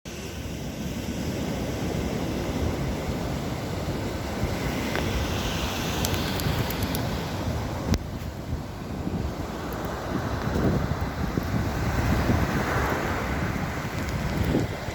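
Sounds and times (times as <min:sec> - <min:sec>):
sea waves washing on shore: 0:00.1 - 0:14.9
wind buffeting microphone: 0:00.5 - 0:14.9.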